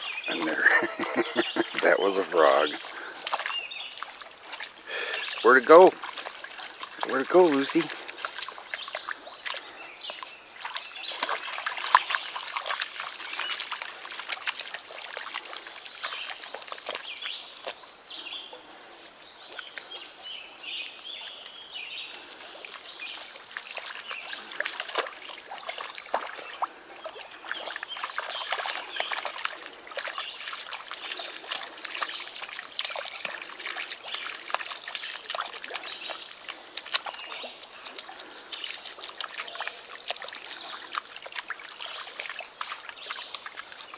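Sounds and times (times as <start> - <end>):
dog splashing through water: 0.0 - 17.9, 19.4 - 43.9
trickling water: 0.0 - 43.9.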